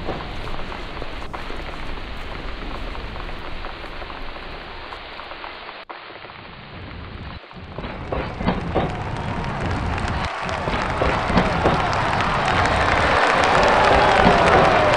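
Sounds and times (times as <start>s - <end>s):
heavy rain falling: 0.0s - 14.9s.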